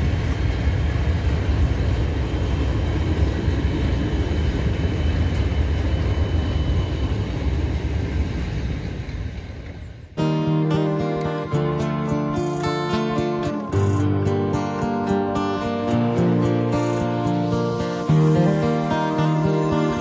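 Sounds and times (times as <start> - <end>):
freight train rolling on rails: 0.0 - 20.0.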